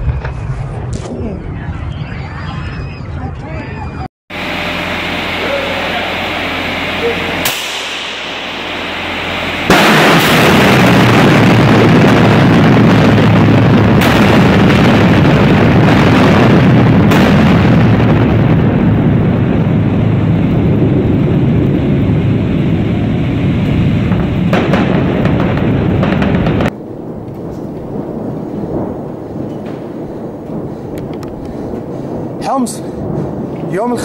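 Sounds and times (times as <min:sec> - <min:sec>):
explosion blast roaring through tunnel: 0:00.0 - 0:34.0.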